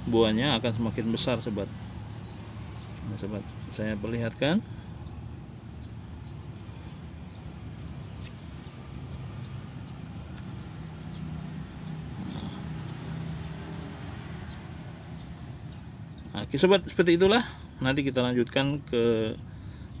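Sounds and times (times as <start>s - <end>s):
distant traffic rumble: 0.0s - 20.0s
vehicle engine hum: 0.0s - 20.0s.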